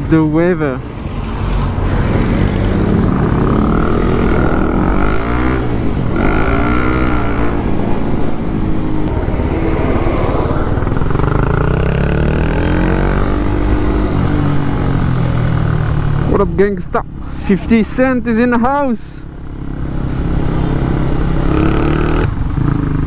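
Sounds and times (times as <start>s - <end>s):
motorcycle engine revving: 1.5s - 17.4s, 19.3s - 23.0s.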